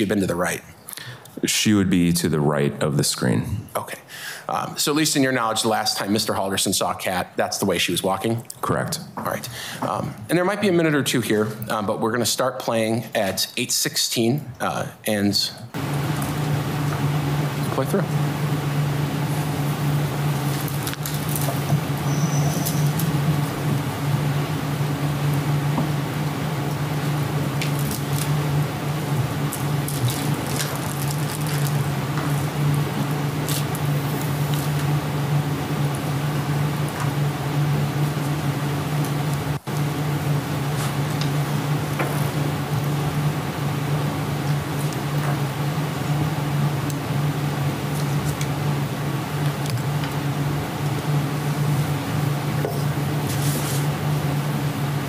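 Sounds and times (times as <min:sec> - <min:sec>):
low hum with hiss: 0:00.0 - 0:55.0.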